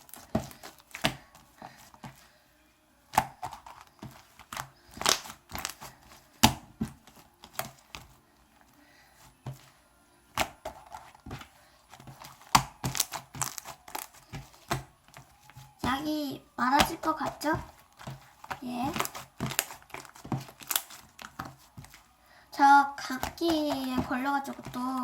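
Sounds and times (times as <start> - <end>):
slime crackling and popping: 0.0 - 2.2, 3.1 - 8.2, 10.3 - 25.0.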